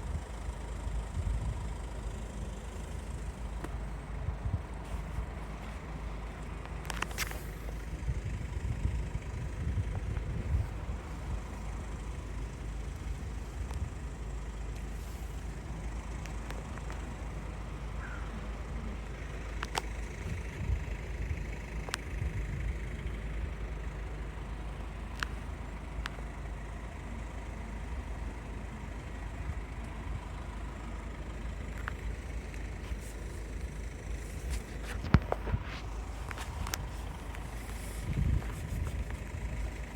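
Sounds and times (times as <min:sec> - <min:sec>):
motor vehicles rumbling: 0:00.0 - 0:39.9.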